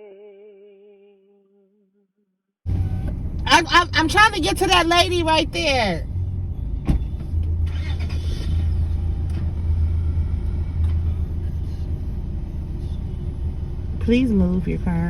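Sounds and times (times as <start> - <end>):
car engine and road rumble: 2.7 - 15.0.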